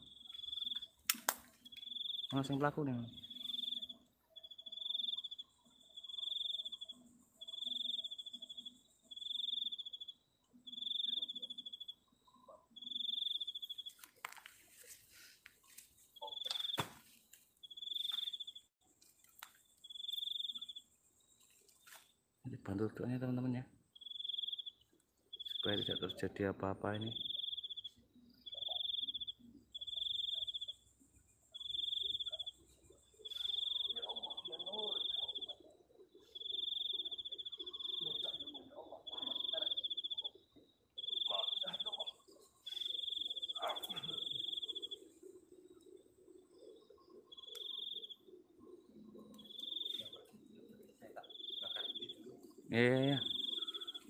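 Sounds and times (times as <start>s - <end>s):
insect trilling: 0.0s - 15.0s, 15.6s - 54.0s
cricket chirping: 0.0s - 54.0s.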